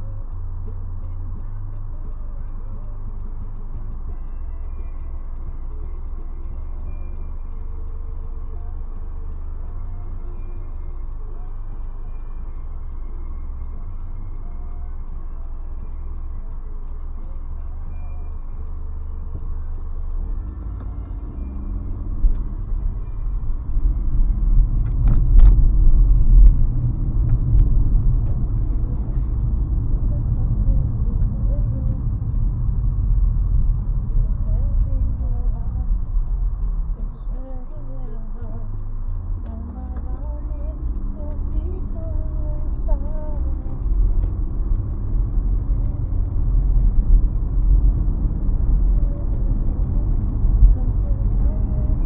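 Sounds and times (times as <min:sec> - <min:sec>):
car road rumble: 0:00.0 - 0:52.0.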